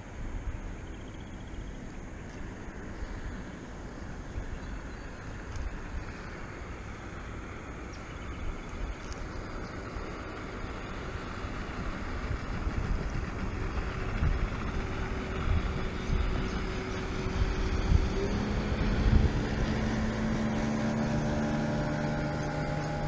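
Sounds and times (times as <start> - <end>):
faint steady hum: 0.0 - 23.0
wind buffeting microphone: 2.7 - 23.0.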